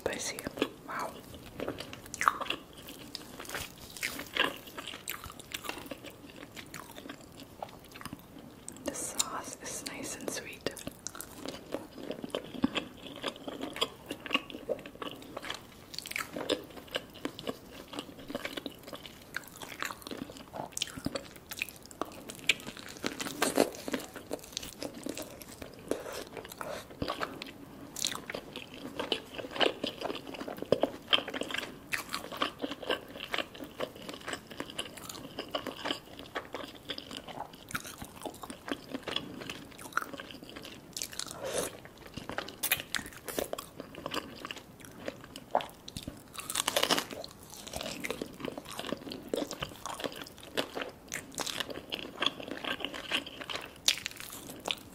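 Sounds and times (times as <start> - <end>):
close-miked chewing: 0.0 - 54.9.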